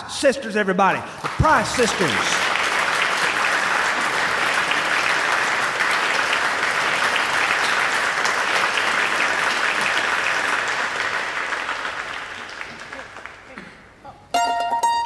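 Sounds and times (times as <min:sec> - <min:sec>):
audience applauding: 0:01.2 - 0:13.7.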